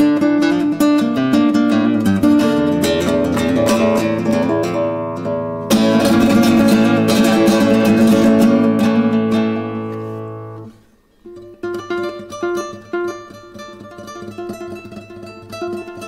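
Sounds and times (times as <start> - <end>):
flamenco guitar: 0.0 - 16.0.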